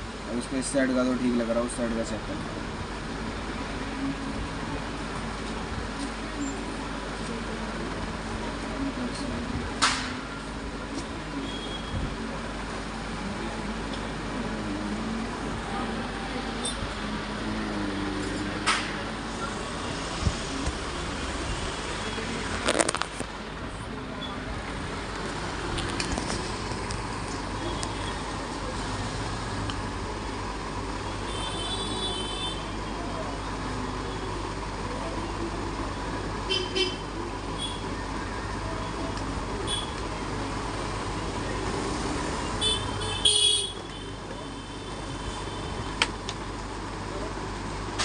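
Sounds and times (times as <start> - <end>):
street traffic noise: 0.0 - 48.0.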